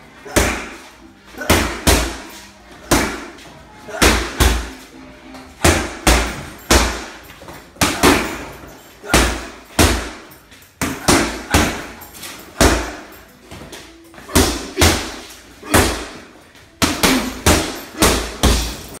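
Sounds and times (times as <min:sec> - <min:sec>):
boxing gloves punching heavy bag: 0:00.2 - 0:04.9, 0:05.6 - 0:19.0.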